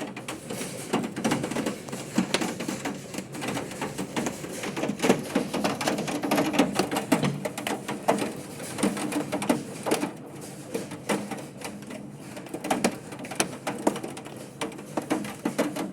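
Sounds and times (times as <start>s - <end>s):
hail and rain on hard surface: 0.0s - 15.9s.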